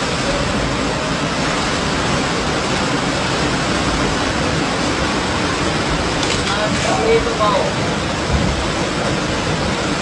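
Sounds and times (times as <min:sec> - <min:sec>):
floodwater rushing down a street: 0:00.0 - 0:10.0.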